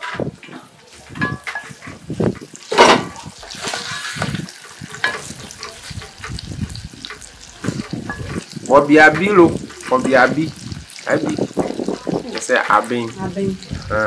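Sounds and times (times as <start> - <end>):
food sizzling in a pot: 0.0 - 14.0
spoon stirring and scraping: 0.8 - 12.8.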